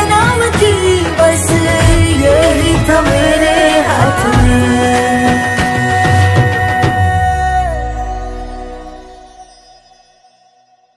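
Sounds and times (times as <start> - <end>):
pop song playing: 0.0 - 9.4.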